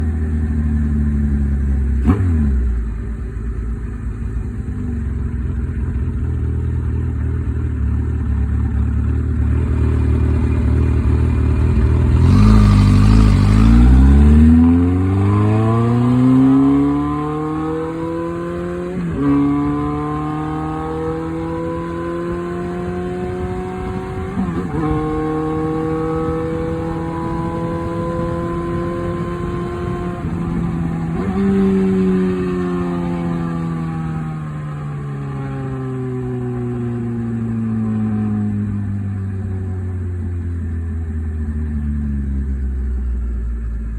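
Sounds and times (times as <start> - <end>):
car engine through exhaust: 0.0 - 43.9.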